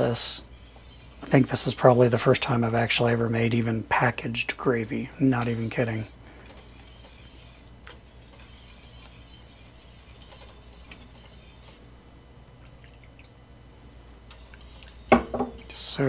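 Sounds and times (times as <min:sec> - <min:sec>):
whisk scraping metal saucepan: 0:00.0 - 0:11.9, 0:14.3 - 0:16.0
steady low hum: 0:00.0 - 0:16.0.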